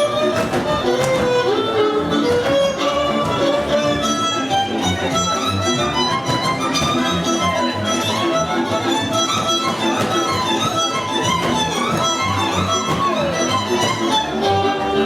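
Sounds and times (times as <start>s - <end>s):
violin music: 0.0s - 15.0s.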